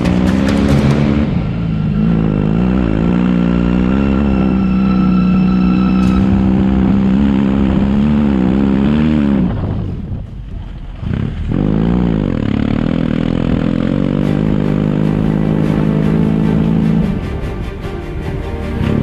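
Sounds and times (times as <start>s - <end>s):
motorcycle engine revving: 0.0s - 10.2s, 11.0s - 17.6s.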